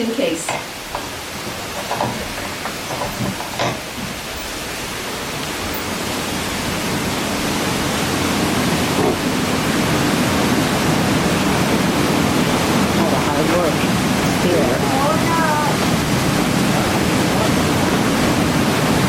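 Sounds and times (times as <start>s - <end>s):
water rushing onto water wheel: 0.0s - 19.0s.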